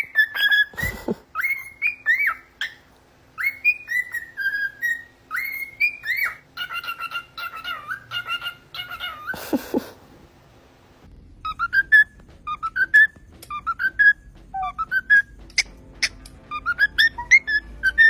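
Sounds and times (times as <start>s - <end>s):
parrot whistling a tune: 0.0s - 2.8s, 3.4s - 9.4s, 11.4s - 15.7s, 16.5s - 18.0s.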